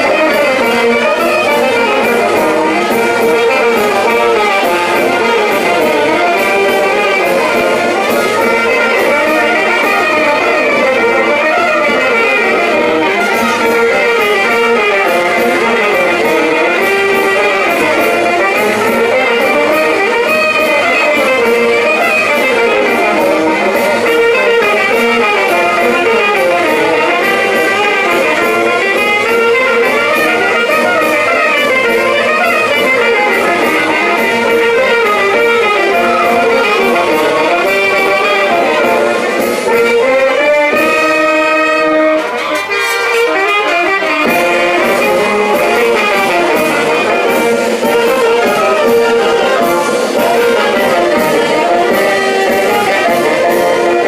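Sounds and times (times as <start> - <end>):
brass band playing dance tune: 0.0 - 54.0.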